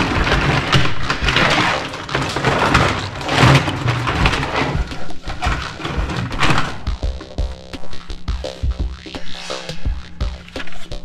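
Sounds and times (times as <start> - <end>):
plastic toys clattering and scraping: 0.0 - 7.4, 9.2 - 11.0.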